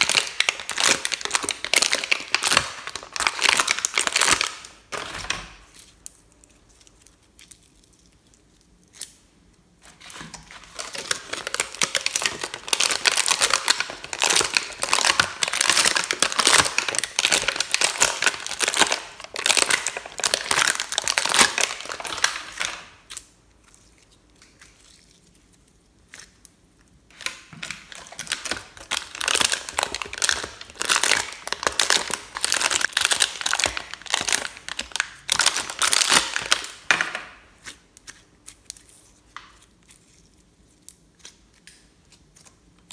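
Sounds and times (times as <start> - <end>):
wet slime crackling and popping: 0.0 - 4.8, 9.9 - 42.9.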